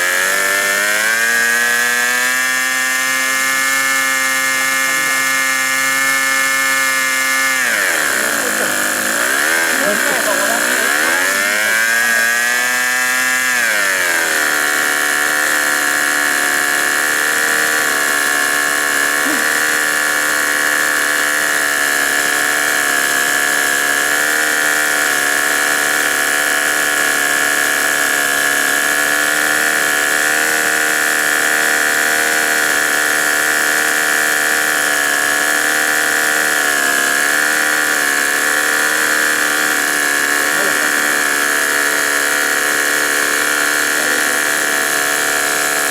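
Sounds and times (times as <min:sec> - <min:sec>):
model airplane engine running: 0:00.0 - 0:45.9.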